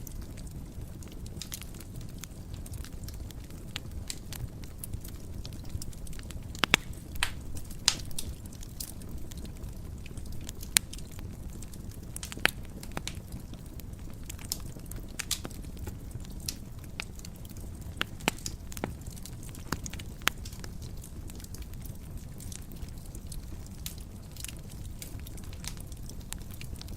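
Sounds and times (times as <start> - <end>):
fire crackling and popping: 0.0 - 26.9
fire rumbling: 0.0 - 26.9.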